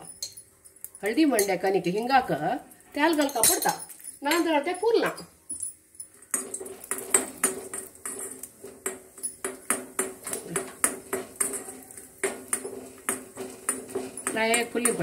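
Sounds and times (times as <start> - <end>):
metal spoon clinking in iron pan: 0.0 - 2.1, 3.0 - 15.0.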